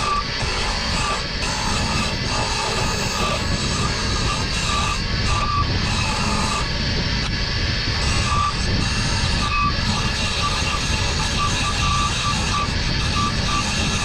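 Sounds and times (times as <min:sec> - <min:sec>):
power tool motor running: 0:00.0 - 0:14.0.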